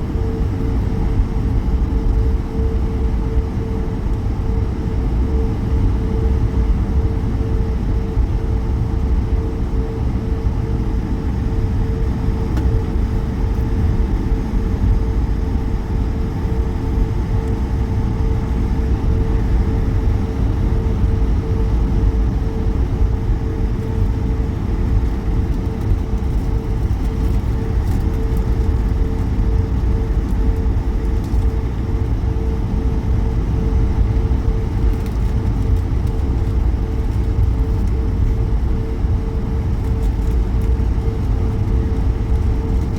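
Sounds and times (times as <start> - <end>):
airplane cabin rumble: 0.0 - 42.9
mid-pitched hum: 0.0 - 42.9.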